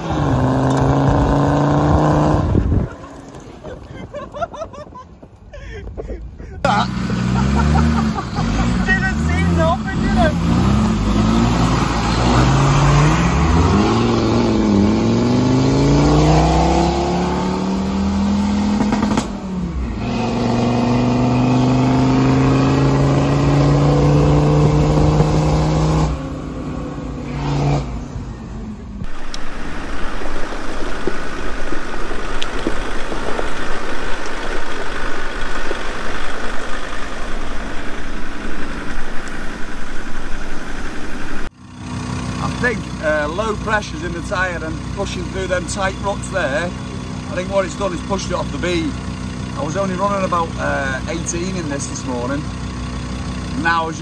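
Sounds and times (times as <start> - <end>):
vehicle engine shifting gears: 0.0 - 3.9, 6.6 - 54.0
rough driving noise on dirt track: 0.0 - 54.0.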